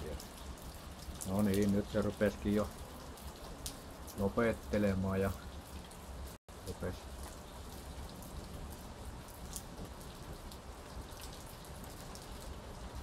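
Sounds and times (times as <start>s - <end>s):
rain falling steadily: 0.0s - 13.0s
sharp ticks of raindrops: 0.0s - 13.0s.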